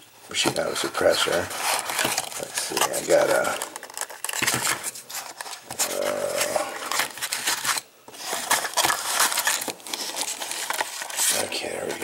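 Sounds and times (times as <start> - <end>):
cardboard scraping: 0.4 - 12.0.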